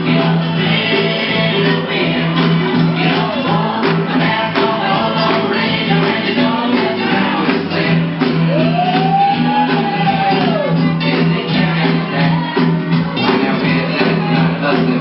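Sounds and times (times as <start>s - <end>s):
loud song with singer and band: 0.0s - 15.0s.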